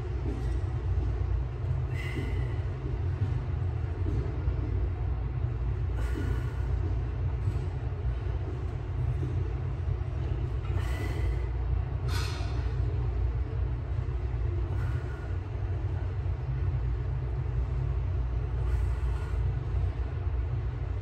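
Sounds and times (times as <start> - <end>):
low rumble of room noise: 0.0 - 21.0.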